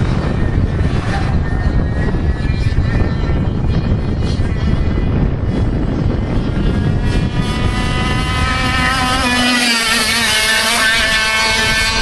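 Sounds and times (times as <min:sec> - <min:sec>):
kart engine buzzing: 0:00.0 - 0:12.0.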